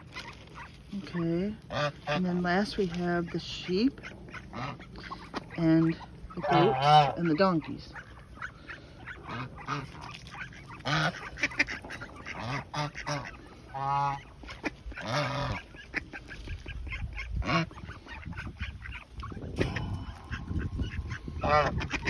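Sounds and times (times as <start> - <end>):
ducks calling: 0.0 - 22.0
geese honking: 0.0 - 22.0.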